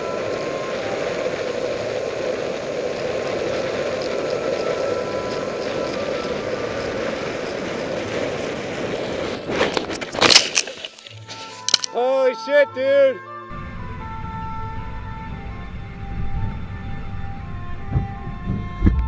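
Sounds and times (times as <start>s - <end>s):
wind noise: 0.0s - 12.0s, 13.5s - 19.0s
longboard wheels rolling on asphalt: 0.0s - 19.0s.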